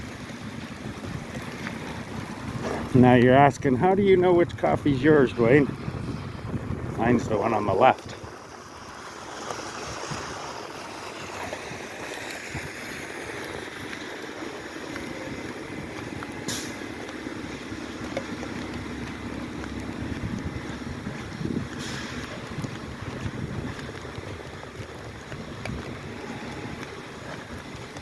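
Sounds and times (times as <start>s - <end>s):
car driving on wet road: 0.0s - 28.0s.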